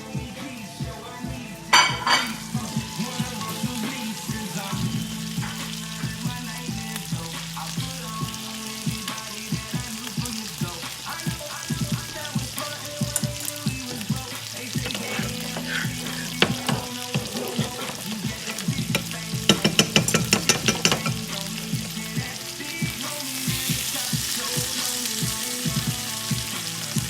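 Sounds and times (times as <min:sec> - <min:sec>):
background music with bass: 0:00.0 - 0:27.0
chicken sizzling in a pan: 0:01.6 - 0:27.0.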